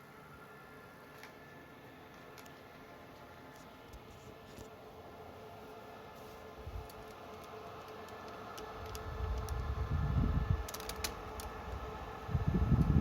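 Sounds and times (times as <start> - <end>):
server cooling fans humming: 0.0 - 13.0.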